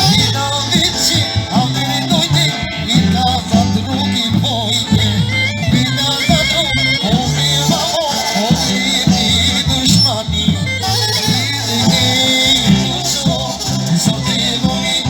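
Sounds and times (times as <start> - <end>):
folk dance music: 0.0 - 15.0.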